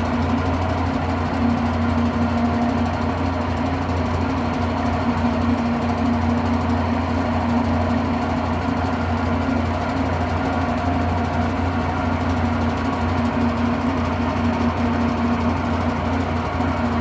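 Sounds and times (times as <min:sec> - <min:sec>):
washing machine spin cycle: 0:00.0 - 0:17.0.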